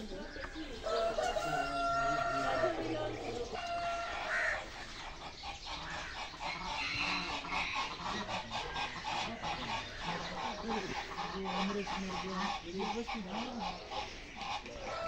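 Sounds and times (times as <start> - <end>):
chickens and ducks calling: 0.0 - 15.0.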